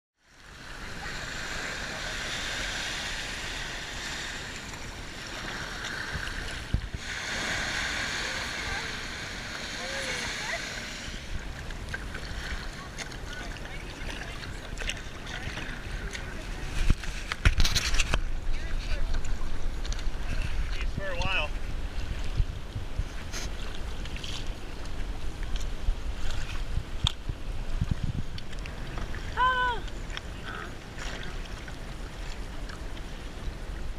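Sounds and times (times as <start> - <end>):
small waves washing on shore: 0.2 - 33.9
kayak paddles splashing in water: 0.3 - 33.9
wind rumbling on microphone: 0.4 - 33.9.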